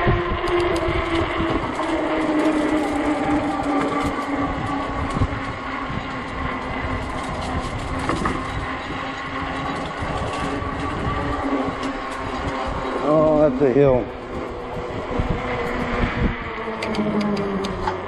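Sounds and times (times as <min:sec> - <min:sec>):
electric bike motor humming: 0:00.0 - 0:18.0
wind buffeting microphone: 0:00.0 - 0:18.0.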